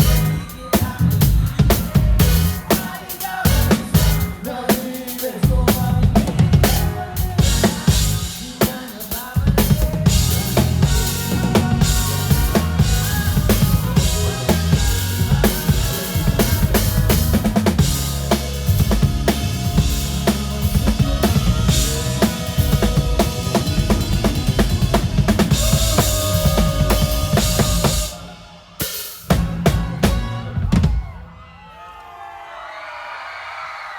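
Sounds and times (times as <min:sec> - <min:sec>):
drum kit beat: 0:00.0 - 0:31.3
live band playing: 0:00.0 - 0:31.3.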